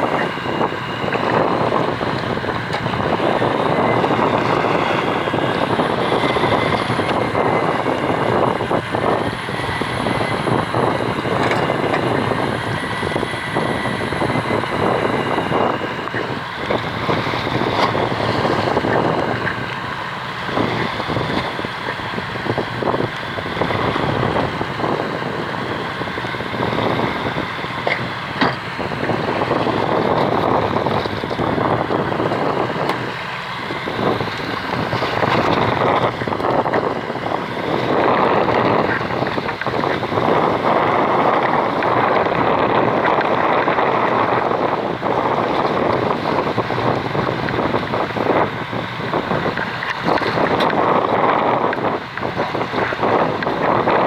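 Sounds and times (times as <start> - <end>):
boat engine: 0.0 - 54.0
water: 0.0 - 54.0
wind buffeting microphone: 0.0 - 54.0.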